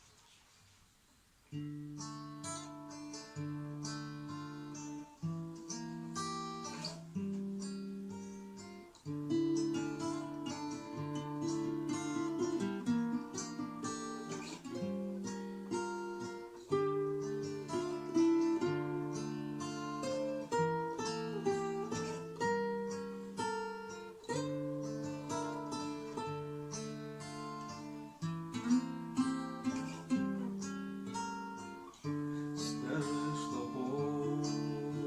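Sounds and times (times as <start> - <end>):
acoustic guitar music: 0.0 - 35.0.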